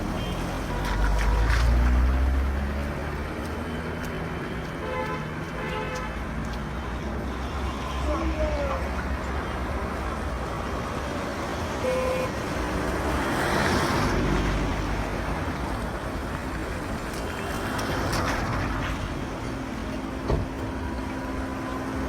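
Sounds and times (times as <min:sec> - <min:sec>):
passing vehicles: 0:00.0 - 0:22.0.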